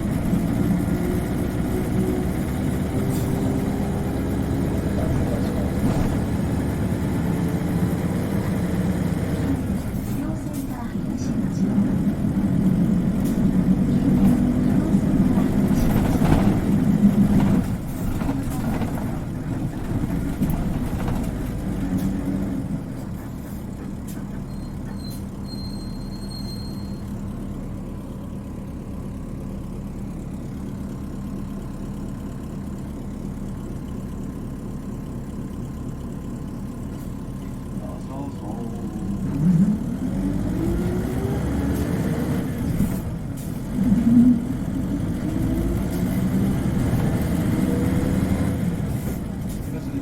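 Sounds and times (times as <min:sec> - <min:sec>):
bus engine running: 0:00.0 - 0:50.0.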